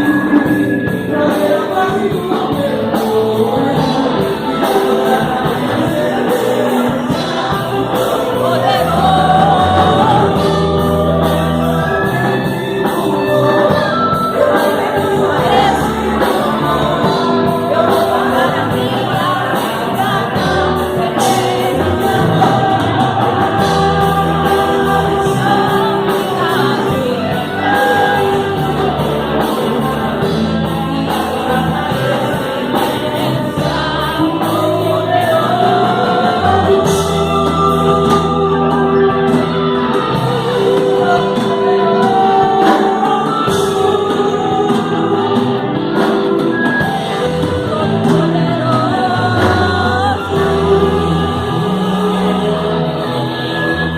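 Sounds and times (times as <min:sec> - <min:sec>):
band with bass and drums: 0:00.0 - 0:53.9
several voices singing gospel: 0:00.0 - 0:53.9.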